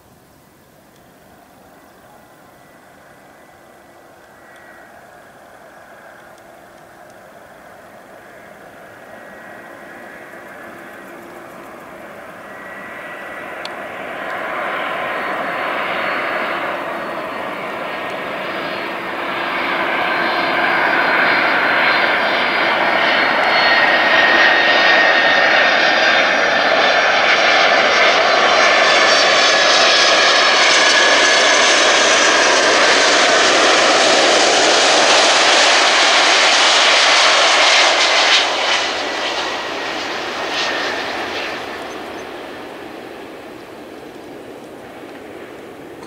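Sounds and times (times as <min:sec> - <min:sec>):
jet engines roaring: 0:00.1 - 0:46.0.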